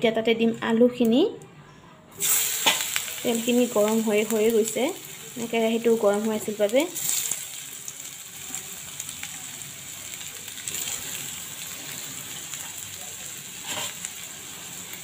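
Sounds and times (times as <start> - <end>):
potatoes sizzling in oil: 2.2 - 15.0.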